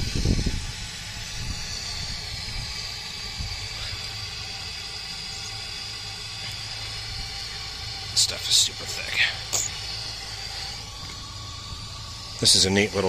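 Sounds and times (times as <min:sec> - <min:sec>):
steam boiler hissing and rumbling: 0:00.0 - 0:13.0.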